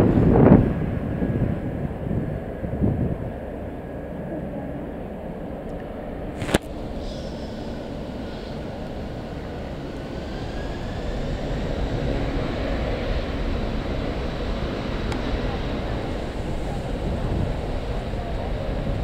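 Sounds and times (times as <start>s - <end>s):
airliner engine rumble: 0.0s - 19.0s
faint gliding whine: 0.0s - 19.0s.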